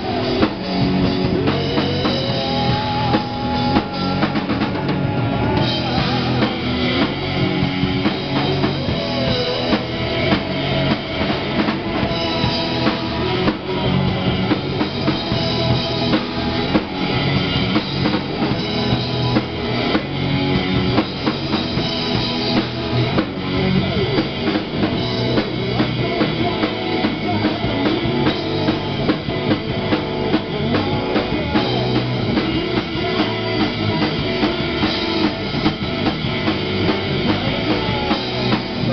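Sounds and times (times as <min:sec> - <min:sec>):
amplified electric guitar: 0:00.0 - 0:38.9
drum kit beat: 0:00.0 - 0:38.9.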